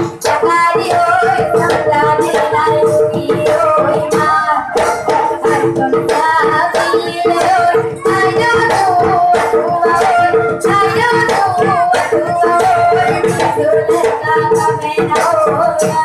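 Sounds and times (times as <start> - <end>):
person singing: 0.0 - 16.0
steady drumbeat: 0.0 - 16.0.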